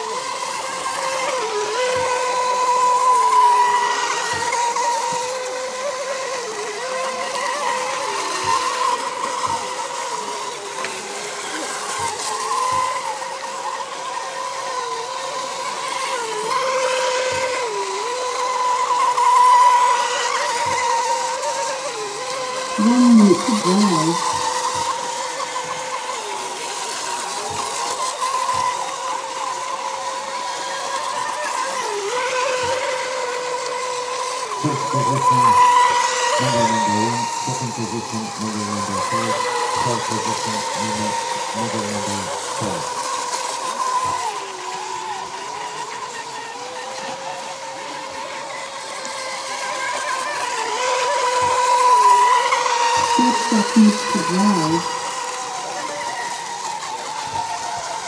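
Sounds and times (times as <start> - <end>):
racing model boats whining: 0.0 - 58.0.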